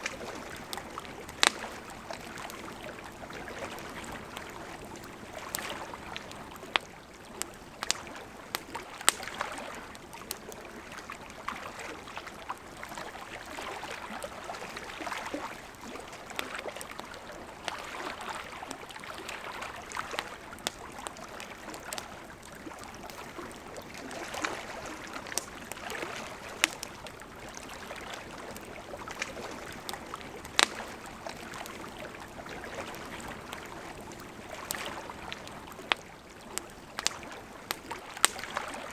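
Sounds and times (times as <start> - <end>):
campfire crackling and popping: 0.0 - 38.9
river flowing: 0.0 - 38.9.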